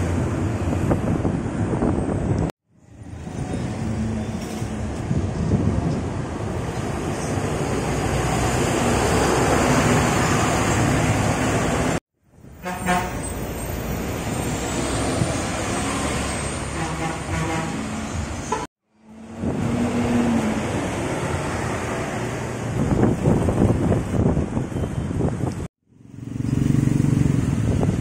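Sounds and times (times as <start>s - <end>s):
buses passing: 0.0s - 28.0s
traffic noise: 0.0s - 28.0s.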